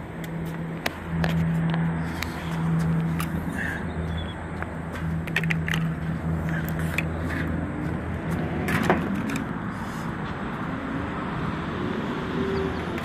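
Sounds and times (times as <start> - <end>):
vehicle engine idling: 0.0 - 10.7.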